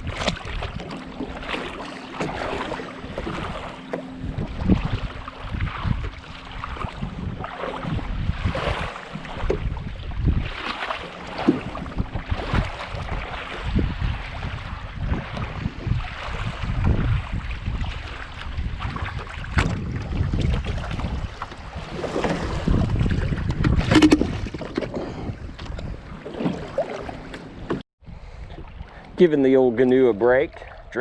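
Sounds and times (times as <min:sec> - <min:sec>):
gusty wind on microphone: 0:00.0 - 0:00.9, 0:02.2 - 0:28.9
water splashing: 0:00.0 - 0:27.8.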